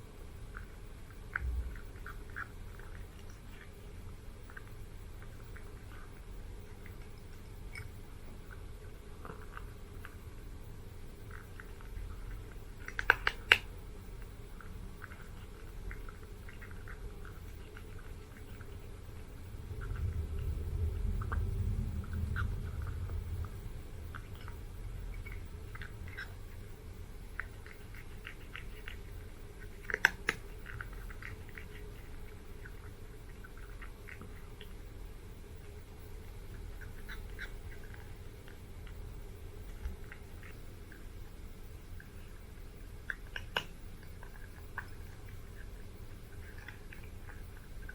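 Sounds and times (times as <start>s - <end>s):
cat crunching dry food: 0.5s - 47.9s.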